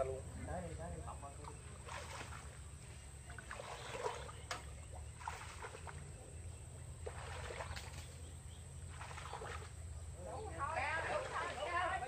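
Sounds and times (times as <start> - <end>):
water splashing and sloshing: 0.7 - 12.0.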